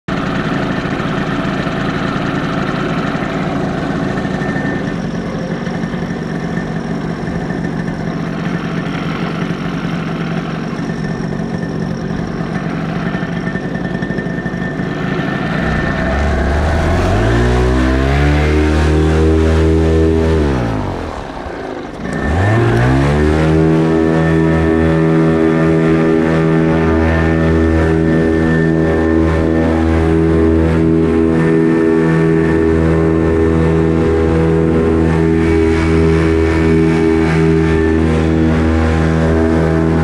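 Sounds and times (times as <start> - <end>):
paramotor engine and propeller: 0.1 - 40.0.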